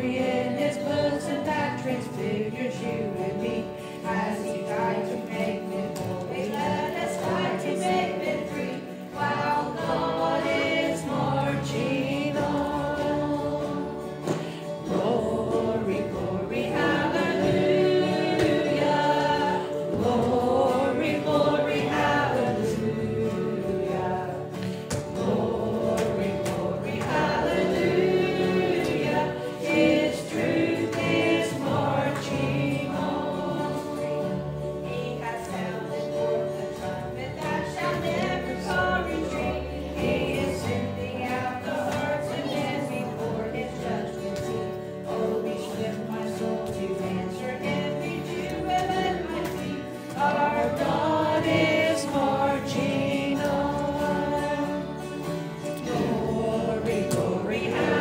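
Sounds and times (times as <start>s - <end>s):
acoustic guitar: 0.0s - 58.0s
congregation singing: 0.0s - 58.0s
woman singing a hymn: 0.0s - 58.0s.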